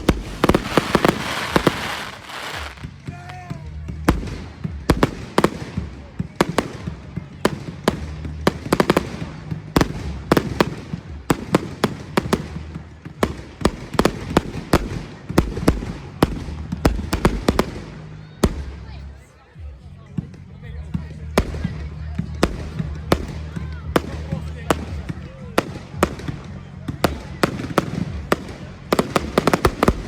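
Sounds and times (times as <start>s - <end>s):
fireworks bangs: 0.0s - 19.0s, 21.1s - 30.0s.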